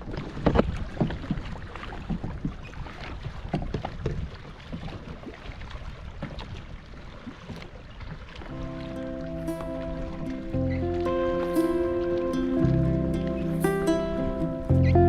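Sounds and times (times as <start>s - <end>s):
paddle strokes in water: 0.0s - 15.0s
water splashing against kayak: 0.0s - 15.0s.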